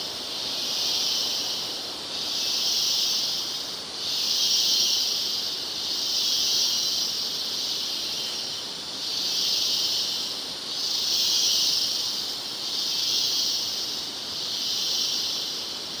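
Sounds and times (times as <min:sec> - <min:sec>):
cicadas droning: 0:00.0 - 0:16.0.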